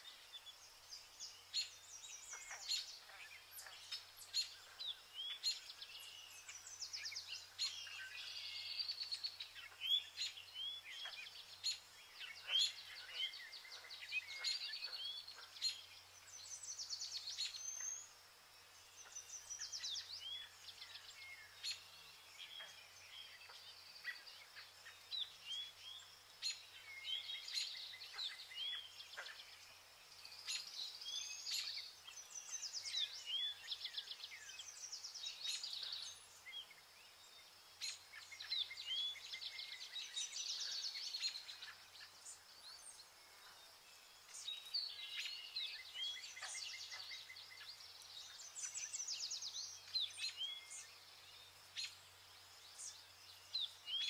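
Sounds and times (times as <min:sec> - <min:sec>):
small birds singing: 0:00.0 - 0:54.0.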